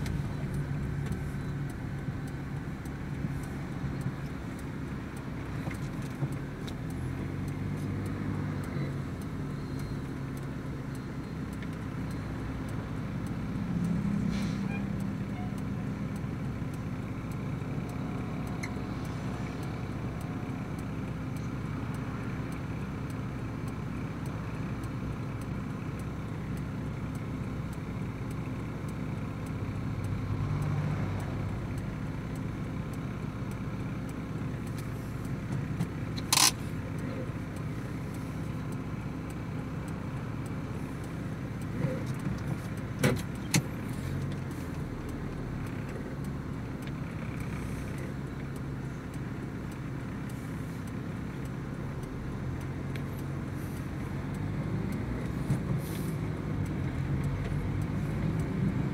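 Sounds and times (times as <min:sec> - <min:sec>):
cars passing on highway: 0:00.0 - 0:58.9
engine humming: 0:00.0 - 0:58.9.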